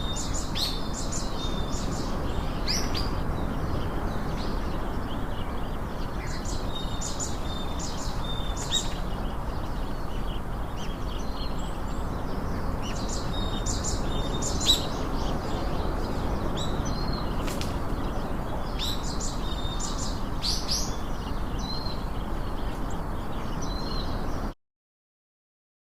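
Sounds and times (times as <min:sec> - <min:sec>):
small birds chirping: 0:00.0 - 0:24.6.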